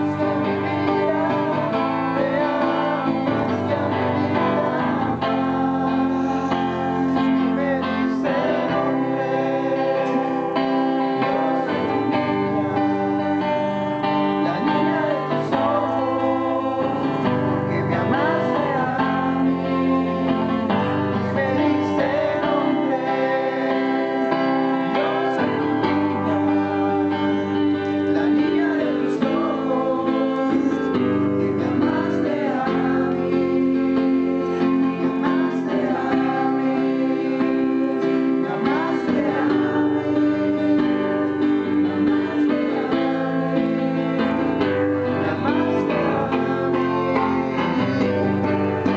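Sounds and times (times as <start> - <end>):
acoustic guitar strumming: 0.0 - 48.9
person singing praise song: 0.0 - 48.9.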